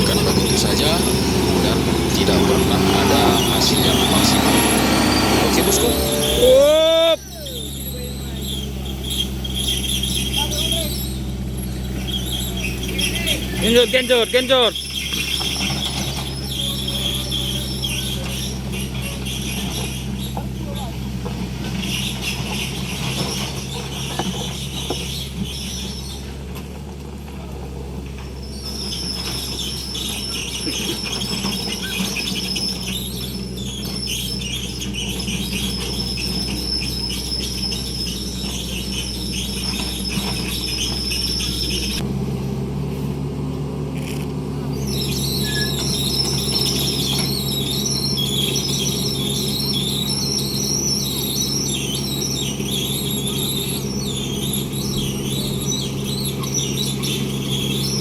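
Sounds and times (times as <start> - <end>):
high-pitched wavering squeal: 0.0 - 21.0, 28.5 - 42.0, 44.7 - 58.0
truck diesel engine labouring: 0.0 - 58.0.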